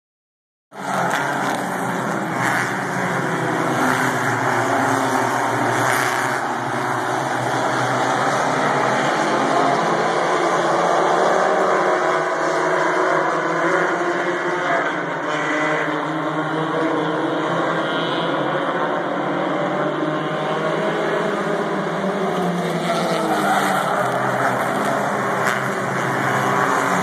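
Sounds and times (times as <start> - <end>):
race car engines: 0.7 - 27.0.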